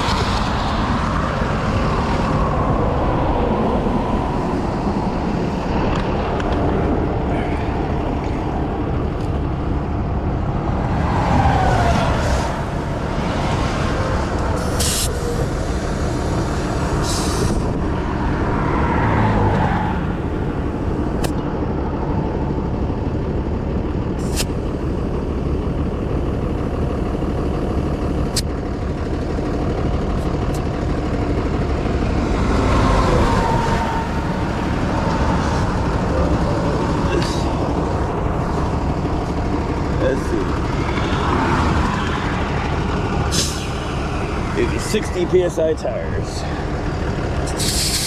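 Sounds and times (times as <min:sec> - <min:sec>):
roadside traffic noise: 0:00.0 - 0:48.0
truck engine running: 0:00.0 - 0:48.0.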